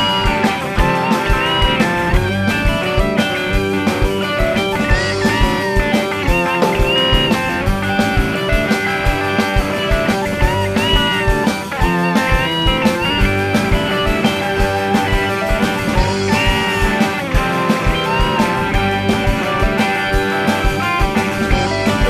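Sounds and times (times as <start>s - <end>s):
bass: 0.0s - 22.0s
electric guitar lead: 0.0s - 22.0s
steady drum beat: 0.0s - 22.0s.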